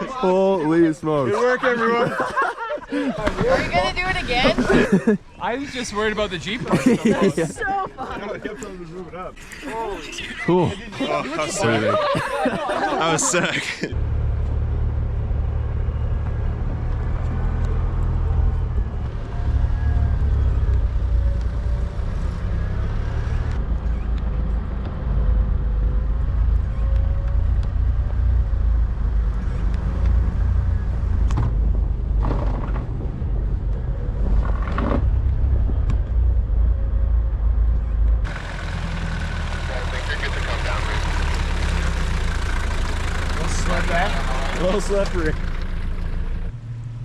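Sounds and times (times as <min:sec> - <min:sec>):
truck engine rumble: 0:00.0 - 0:47.0.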